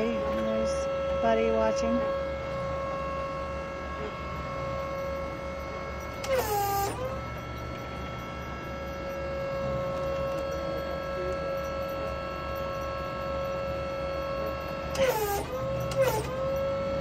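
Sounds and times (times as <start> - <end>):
electric forklift motor whining: 0.0 - 17.0.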